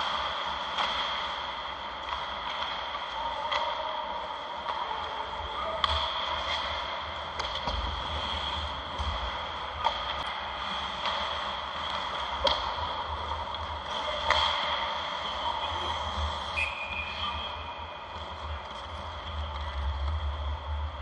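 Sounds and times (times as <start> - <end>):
hockey stick and puck clacks: 0.0 - 4.9, 5.7 - 20.6
rink background noise: 0.0 - 21.0.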